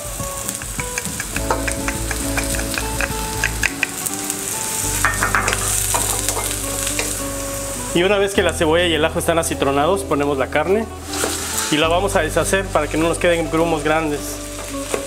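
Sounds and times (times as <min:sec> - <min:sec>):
onion and garlic sizzling: 0:00.0 - 0:15.0.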